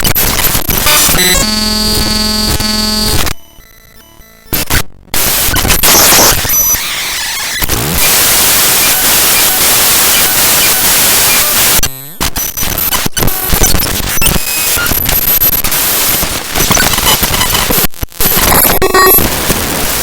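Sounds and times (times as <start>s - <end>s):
harsh digital noise and static: 0.0s - 20.0s.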